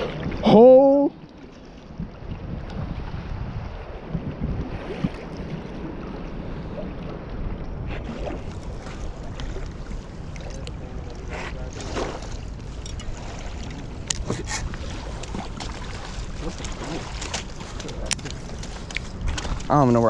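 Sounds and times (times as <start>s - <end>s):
wind buffeting microphone: 1.8s - 20.0s.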